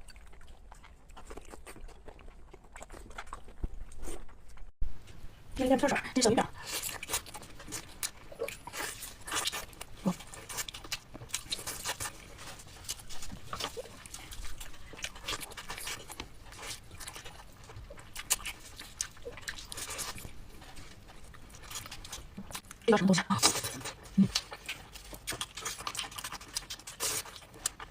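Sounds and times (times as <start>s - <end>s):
chewing with wet clicks: 0.0s - 4.7s, 6.6s - 27.9s.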